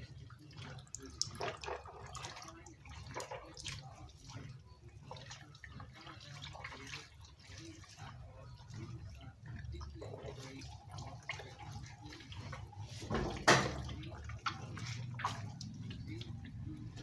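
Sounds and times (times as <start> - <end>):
small splashes from wringing: 0.0 - 17.0
water dripping into plastic basin: 0.0 - 17.0.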